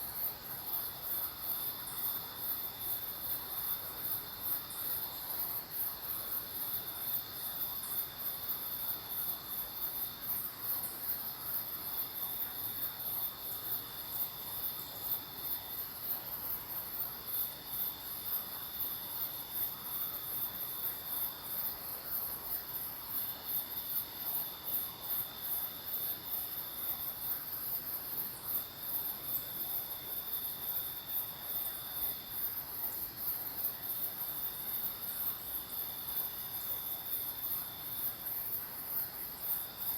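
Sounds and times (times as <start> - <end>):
high pulsing insect chorus: 0.0 - 39.9.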